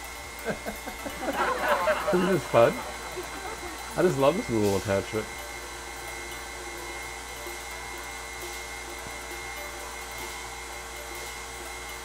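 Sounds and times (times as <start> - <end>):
stand mixer motor whirring: 0.0 - 12.0.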